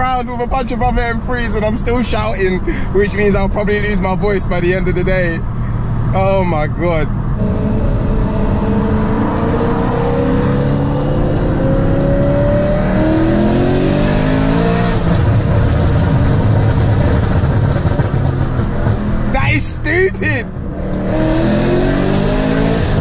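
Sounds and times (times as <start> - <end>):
car engine accelerating: 0.2 - 23.0.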